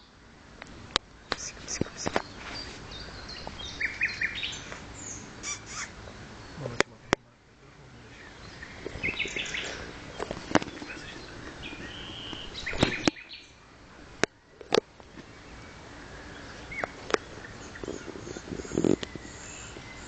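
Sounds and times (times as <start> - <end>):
birds chirping and singing: 1.1 - 20.0.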